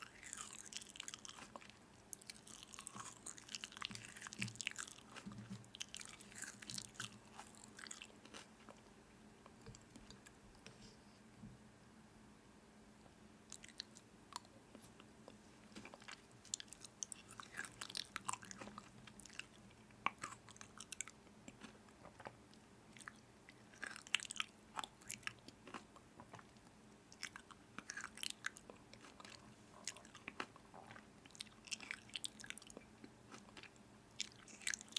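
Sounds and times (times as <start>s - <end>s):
crunchy food being chewed: 0.0s - 10.4s, 13.5s - 34.9s.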